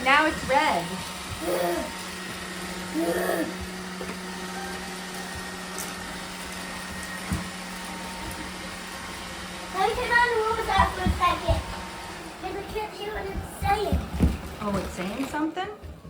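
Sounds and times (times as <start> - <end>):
robot vacuum motor hum: 0.0 - 15.4.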